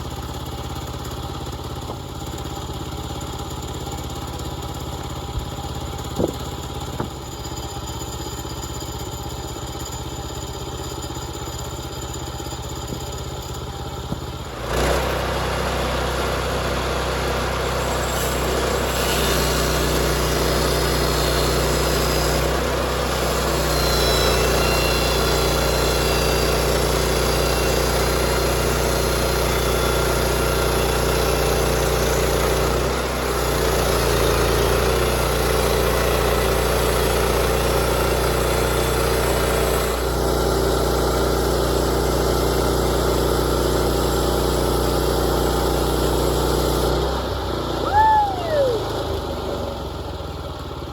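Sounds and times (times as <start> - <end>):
small gas engine running: 0.0 - 50.9.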